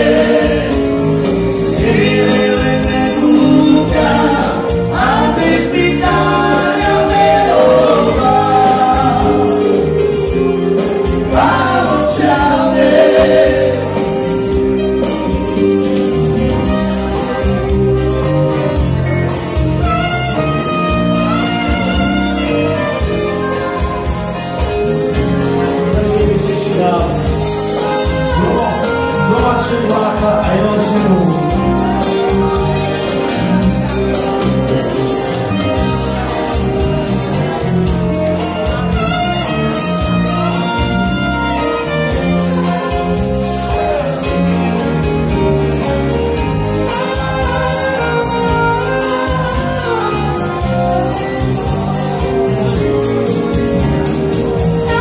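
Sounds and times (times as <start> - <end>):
electric guitar: 0.0 - 55.0
keyboard: 0.0 - 55.0
saxophone: 0.0 - 55.0
steady beat: 0.0 - 55.0.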